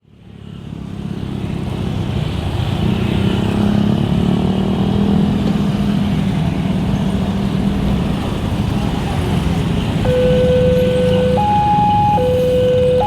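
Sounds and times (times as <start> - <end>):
motorcycle and car engines rumbling: 0.0 - 13.0.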